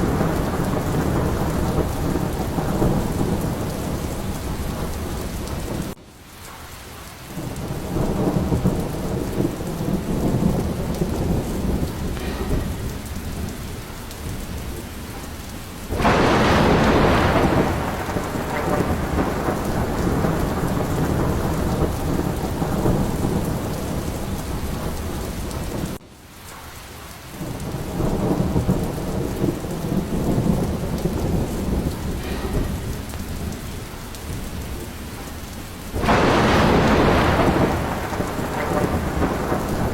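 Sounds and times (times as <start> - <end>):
loud thunderclap: 0.0 - 6.0, 7.4 - 26.0, 27.4 - 39.9
rolling thunder: 0.0 - 6.0, 7.3 - 26.0, 27.3 - 39.9
steady rain: 0.0 - 39.9.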